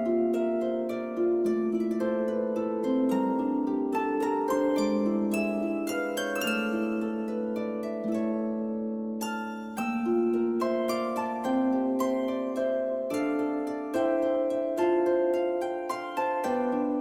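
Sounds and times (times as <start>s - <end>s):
gentle harp music: 0.0s - 17.0s.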